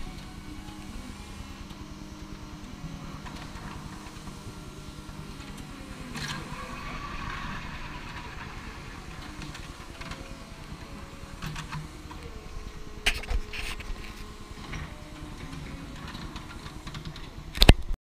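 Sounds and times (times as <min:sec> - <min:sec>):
hissing burst: 0:00.0 - 0:17.6
forklift engine running: 0:00.0 - 0:17.9.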